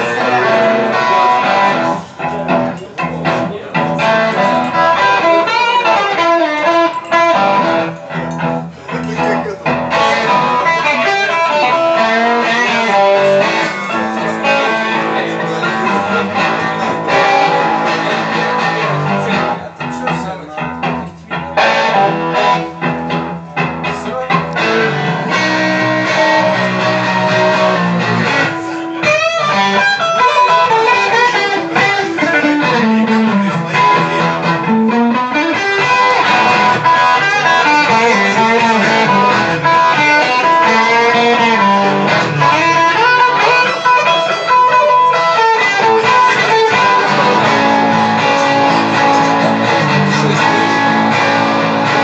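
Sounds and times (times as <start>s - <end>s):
blues electric guitar: 0.0s - 52.0s.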